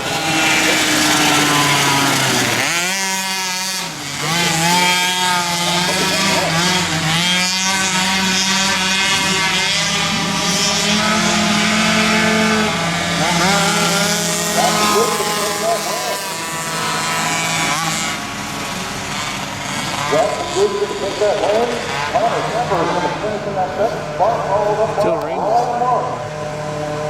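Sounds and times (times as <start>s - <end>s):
racing motorcycle engines: 0.0s - 27.0s.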